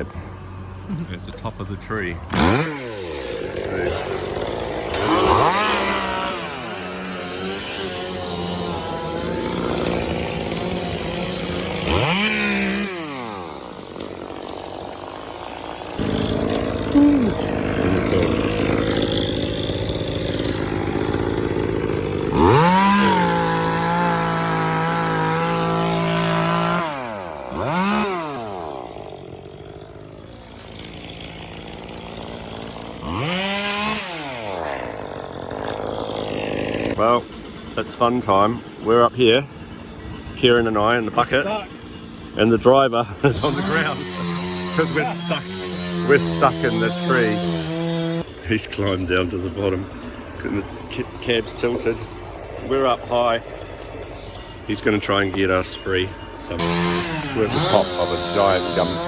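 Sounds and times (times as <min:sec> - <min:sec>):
chainsaw revving and cutting: 0:00.0 - 0:59.0.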